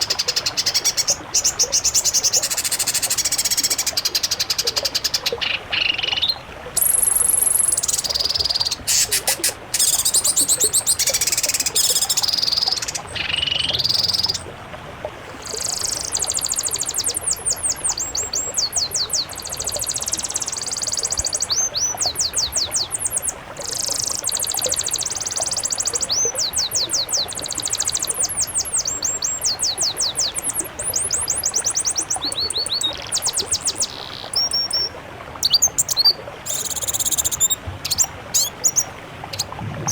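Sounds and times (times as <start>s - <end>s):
songbirds chirping and trilling: 0.0s - 14.4s, 15.4s - 39.9s.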